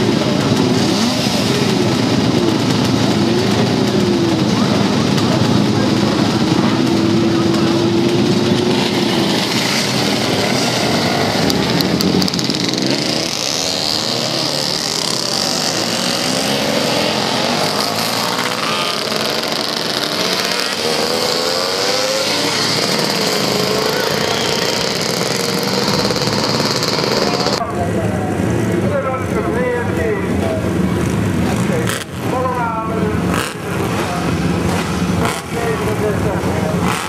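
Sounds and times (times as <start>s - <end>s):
two-stroke motorcycles revving: 0.0s - 37.0s.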